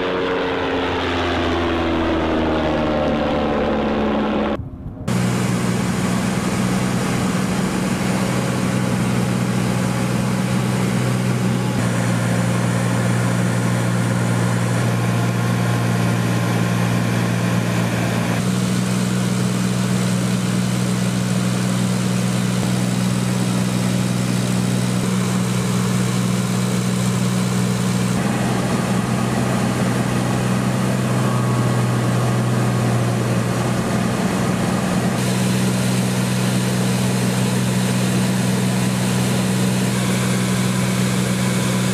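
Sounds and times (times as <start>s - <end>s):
propeller engine droning: 0.0s - 41.9s.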